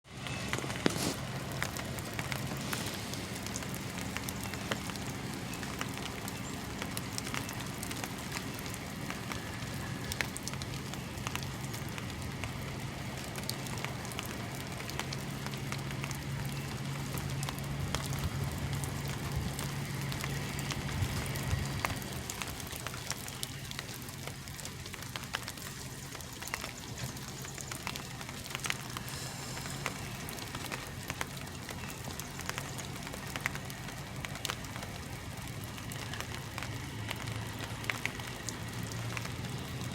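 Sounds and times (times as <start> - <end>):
diesel engine idling: 0.1 - 39.9.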